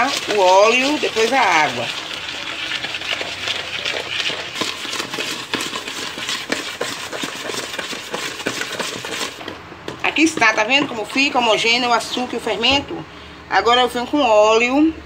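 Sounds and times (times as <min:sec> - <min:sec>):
spoon stirring and scraping bowl: 0:00.0 - 0:12.9.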